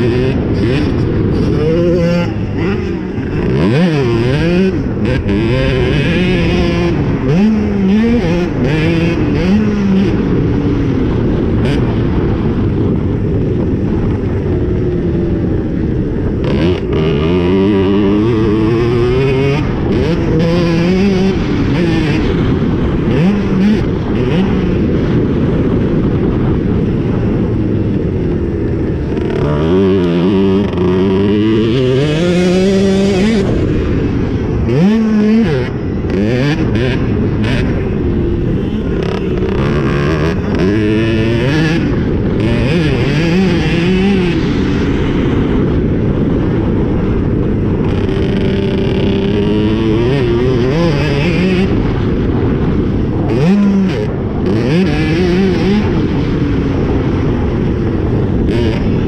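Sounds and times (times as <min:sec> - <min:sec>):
minibike engine revving: 0:00.0 - 0:59.0.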